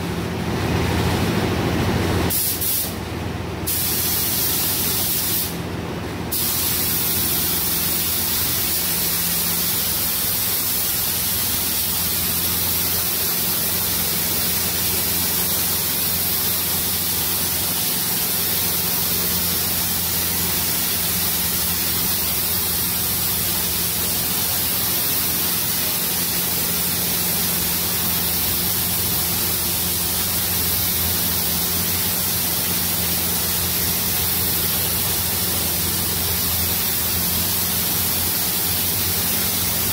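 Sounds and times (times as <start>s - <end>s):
paint spray gun hissing: 2.3s - 3.0s, 3.7s - 5.6s, 6.3s - 39.9s.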